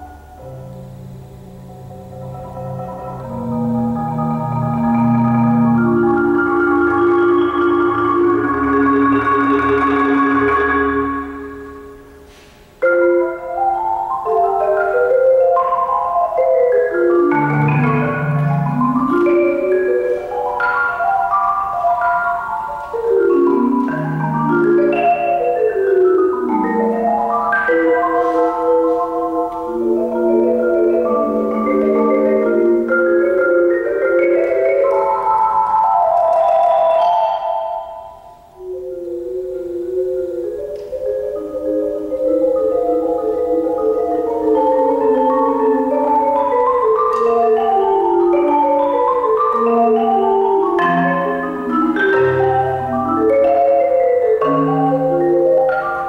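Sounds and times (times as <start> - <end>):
marimba played with mallets: 2.2 - 56.0.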